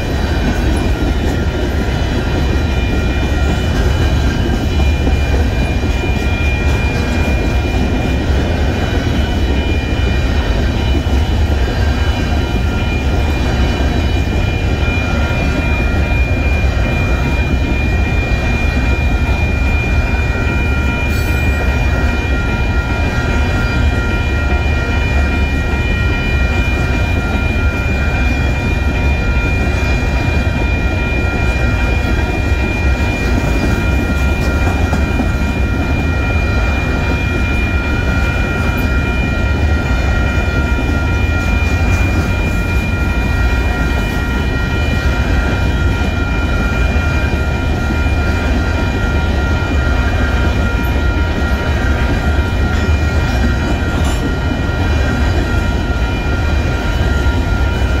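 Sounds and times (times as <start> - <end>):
crossing bell ringing tones: 0.0 - 58.0
freight train rumbling past: 0.0 - 58.0.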